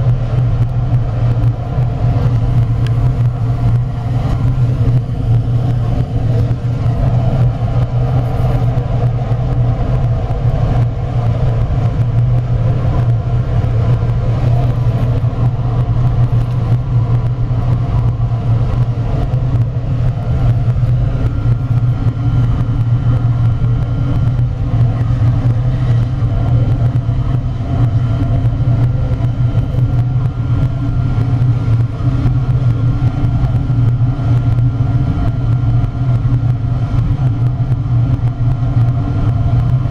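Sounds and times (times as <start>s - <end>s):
furnace low rumble: 0.0s - 39.9s.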